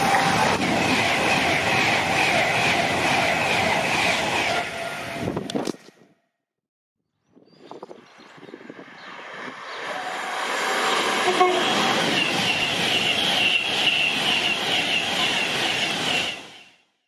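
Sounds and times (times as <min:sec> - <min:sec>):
train passing at speed: 0:00.0 - 0:05.6, 0:08.3 - 0:16.8.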